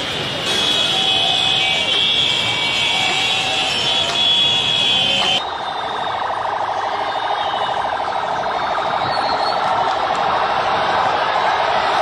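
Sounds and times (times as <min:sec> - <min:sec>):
vehicle siren pulsing: 0:00.1 - 0:10.1.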